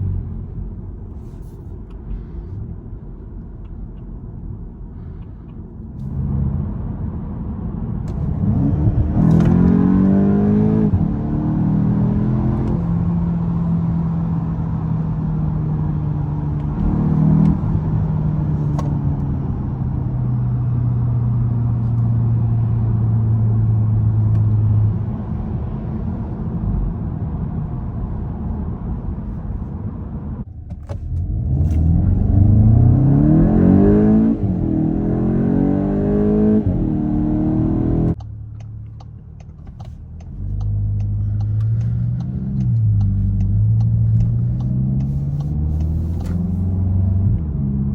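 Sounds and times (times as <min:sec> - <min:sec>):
car engine accelerating: 0:06.0 - 0:47.9.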